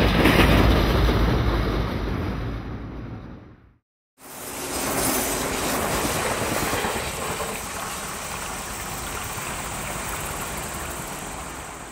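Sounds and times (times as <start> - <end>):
train wheel-and-rail rumble: 0.0 - 3.6, 4.2 - 11.9.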